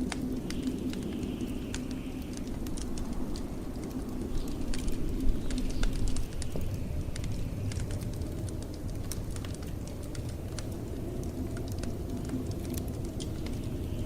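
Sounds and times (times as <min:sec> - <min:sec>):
blizzard wind rumbling: 0:00.0 - 0:14.0
wood fire crackling and popping: 0:00.0 - 0:14.0.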